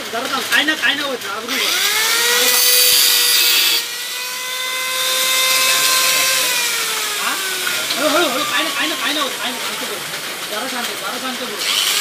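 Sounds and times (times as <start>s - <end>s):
angle grinder cutting metal: 1.5s - 12.0s
grinder motor whine: 1.5s - 12.0s.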